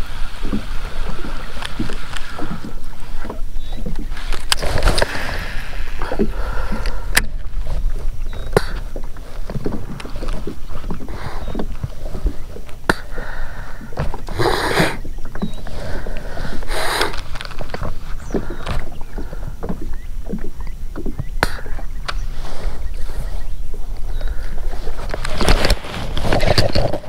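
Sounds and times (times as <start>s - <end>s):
water slapping against kayak hull: 0.0s - 27.0s
wind rumbling on microphone: 0.0s - 27.0s.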